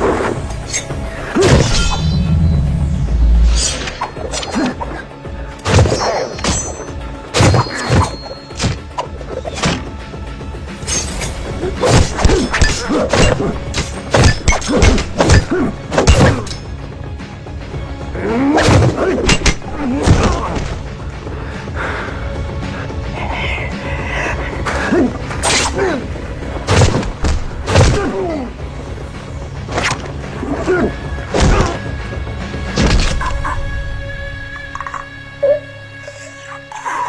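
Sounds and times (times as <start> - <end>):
film score music: 0.0 - 37.0.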